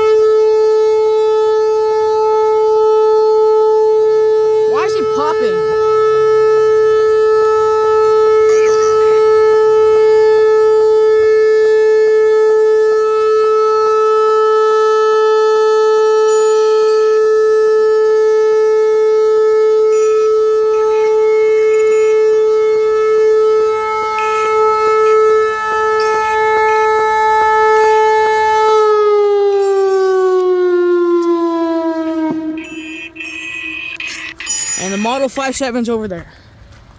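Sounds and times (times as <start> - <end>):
warning siren steady tone: 0.0 - 36.0.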